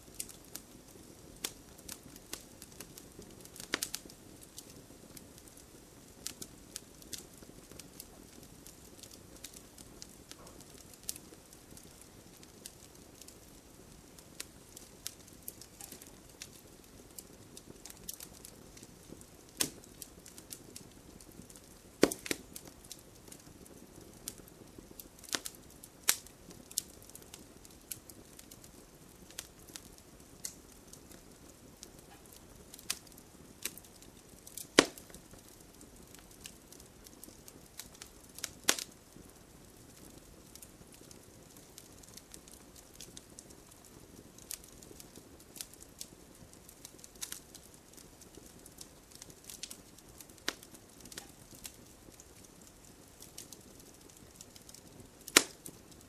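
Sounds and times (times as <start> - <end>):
low steady hiss: 0.0 - 56.0
wood fire crackling and popping: 0.0 - 56.0.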